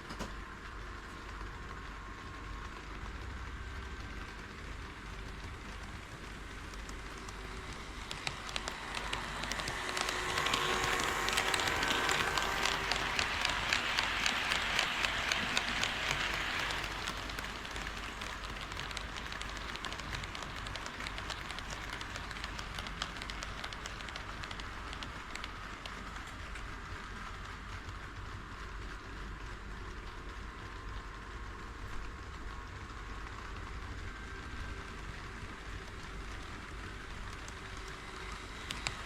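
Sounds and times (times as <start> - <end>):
model train wheels clicking: 0.0 - 39.0.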